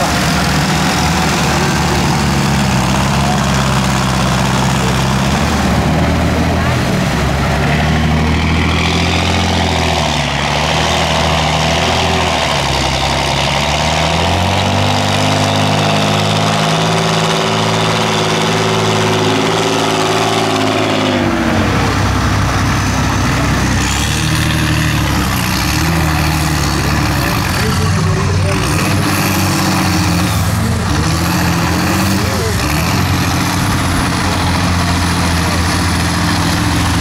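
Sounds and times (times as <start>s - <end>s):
truck engines revving under load: 0.0s - 37.0s.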